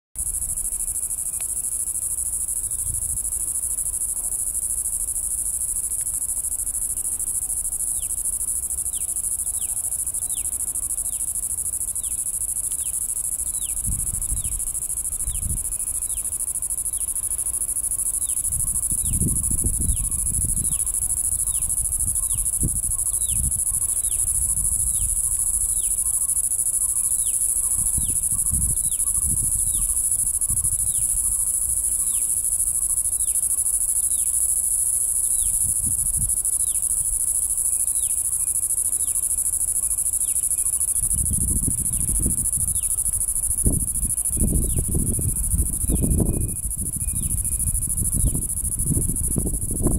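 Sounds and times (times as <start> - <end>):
high-pitched insect drone: 0.2 - 49.9.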